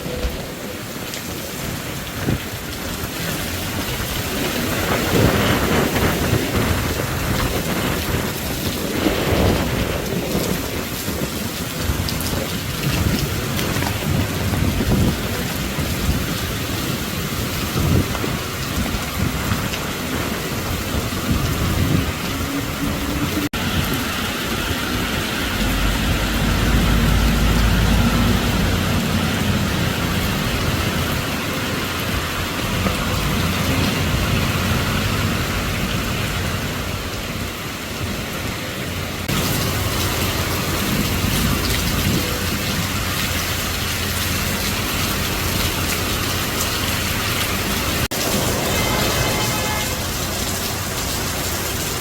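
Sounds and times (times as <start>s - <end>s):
city traffic: 0.0s - 52.0s
heavy rain pouring: 0.0s - 52.0s.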